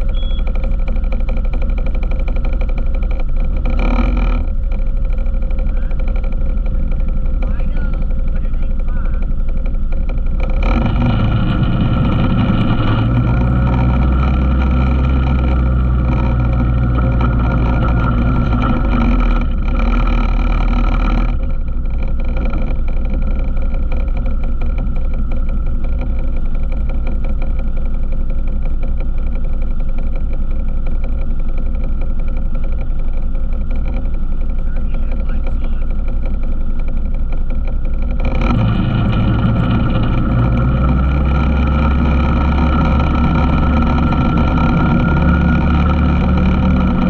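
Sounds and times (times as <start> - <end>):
all-terrain vehicle engine revving: 0.0 - 47.0.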